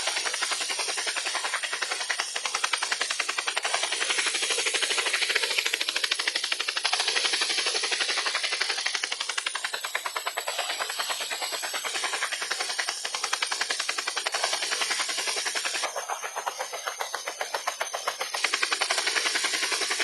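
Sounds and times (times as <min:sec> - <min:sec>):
helicopter rotor beat: 0:00.0 - 0:20.0.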